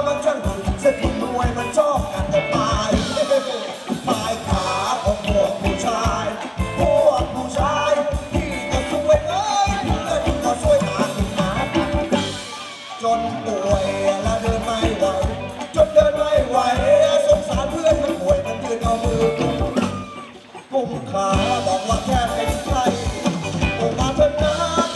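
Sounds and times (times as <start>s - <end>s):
live band dance music: 0.0s - 24.9s
person singing: 0.0s - 24.9s.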